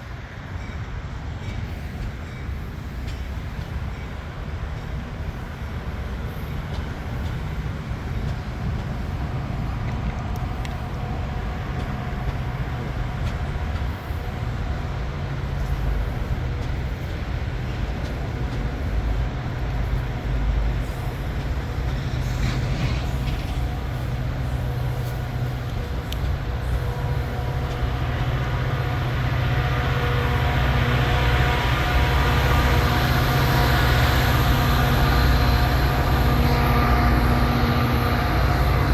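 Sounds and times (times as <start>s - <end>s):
diesel locomotive engine throbbing: 0.0s - 38.9s.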